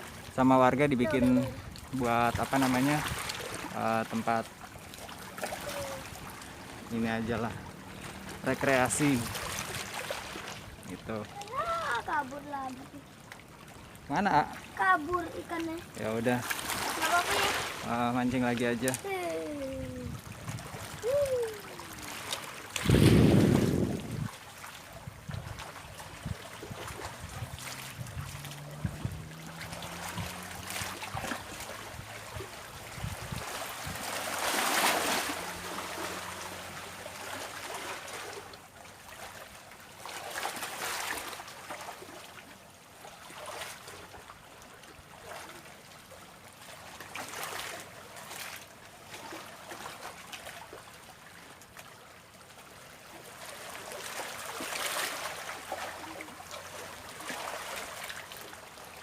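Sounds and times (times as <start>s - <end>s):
small waves washing on shore: 0.0s - 59.0s.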